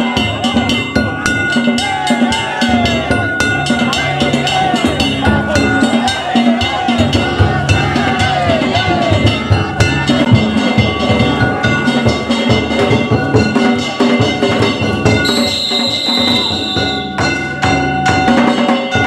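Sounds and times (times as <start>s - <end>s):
fast taiko drums: 0.0s - 19.0s
ringing hand gongs: 0.0s - 19.0s.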